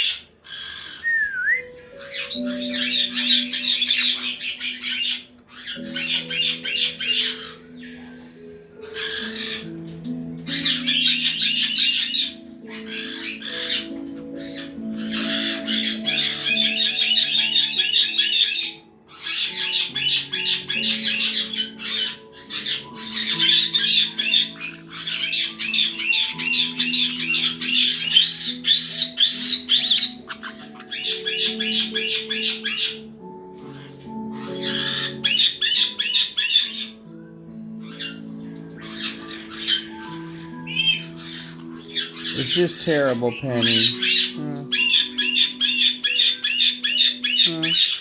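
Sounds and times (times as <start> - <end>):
background music with held notes: 0.0 - 48.0
parrots squawking: 0.0 - 48.0.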